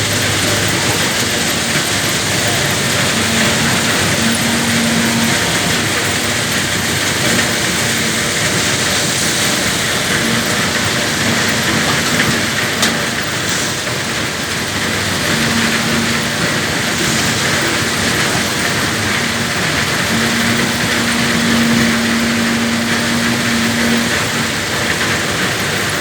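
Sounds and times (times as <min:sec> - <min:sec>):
excavator diesel engine running: 0:00.0 - 0:26.0
loud rushing noise: 0:00.0 - 0:26.0
on and off hum: 0:00.0 - 0:26.0.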